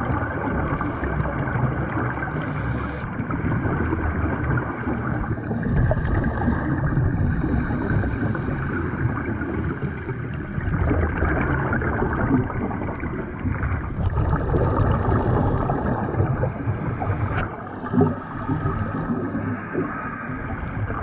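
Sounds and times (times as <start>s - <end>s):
regulator bubbles gurgling: 0.0s - 21.0s
underwater water churning: 0.0s - 21.0s.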